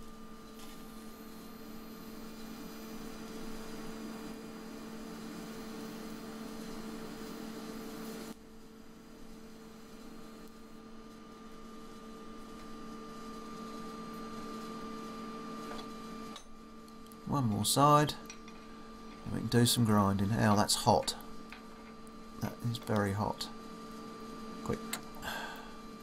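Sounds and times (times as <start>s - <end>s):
welding electrical hum: 0.0s - 26.0s.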